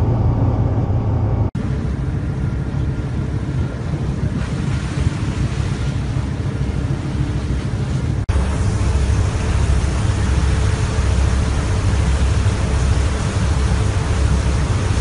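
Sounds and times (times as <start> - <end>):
boat engines rumbling: 0.0 - 15.0
rushing wind and water: 0.0 - 15.0.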